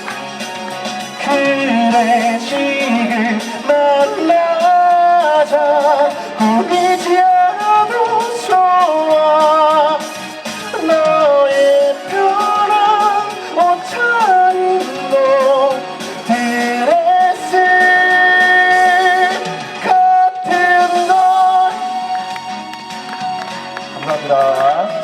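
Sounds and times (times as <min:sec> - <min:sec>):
instrumental backing: 0:00.0 - 0:25.0
person singing pop song: 0:00.0 - 0:25.0.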